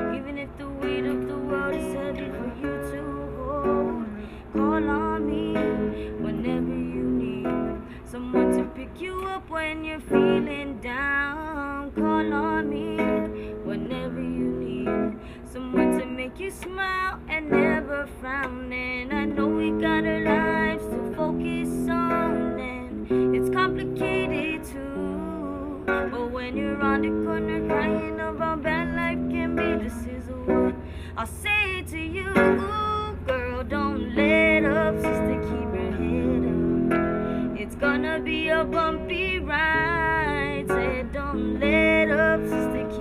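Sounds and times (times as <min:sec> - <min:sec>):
acoustic guitar strumming: 0:00.0 - 0:43.0
person singing: 0:00.0 - 0:43.0.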